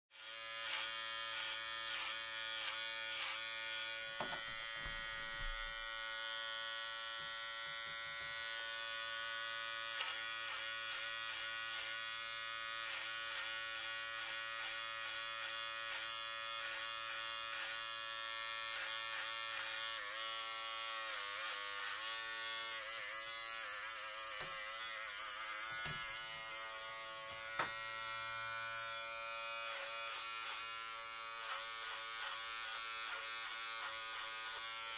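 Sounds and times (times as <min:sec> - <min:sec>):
electric hair clippers buzzing: 0:00.1 - 0:34.9.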